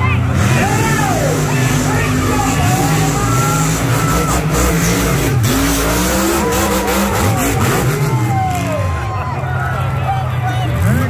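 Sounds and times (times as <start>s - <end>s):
monster truck engines revving: 0.0s - 11.0s.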